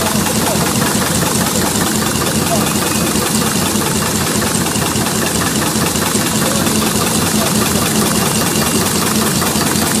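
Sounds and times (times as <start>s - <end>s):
machine mechanical clatter: 0.0s - 10.0s.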